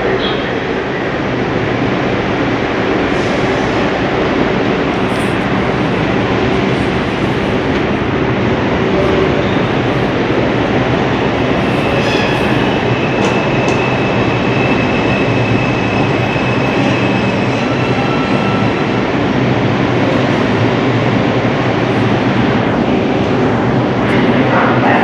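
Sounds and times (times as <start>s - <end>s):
train rumbling on tracks: 0.0s - 25.0s.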